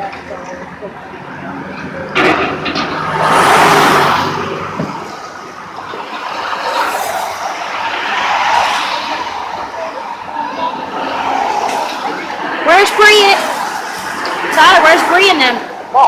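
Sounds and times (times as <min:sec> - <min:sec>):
vehicles passing close by: 0:00.0 - 0:16.0.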